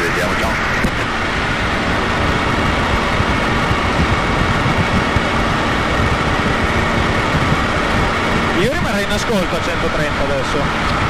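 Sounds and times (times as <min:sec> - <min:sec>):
aircraft engine and propeller drone: 0:00.0 - 0:11.0.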